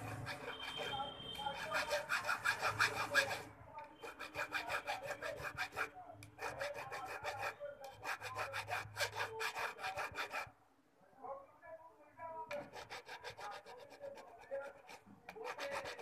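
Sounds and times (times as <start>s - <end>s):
hand file rasping on metal: 0.0s - 10.5s, 12.5s - 16.0s.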